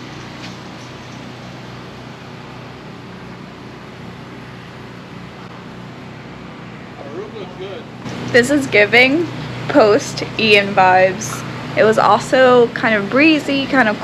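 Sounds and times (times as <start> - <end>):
generator engine humming: 0.0 - 14.0.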